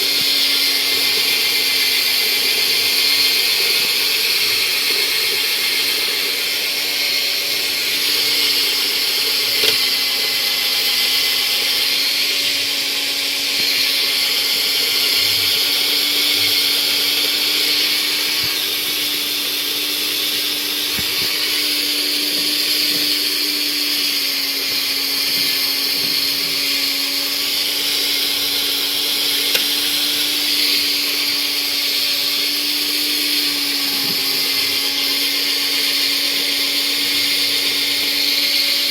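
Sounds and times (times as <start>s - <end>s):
lathe motor whining: 0.0s - 38.9s.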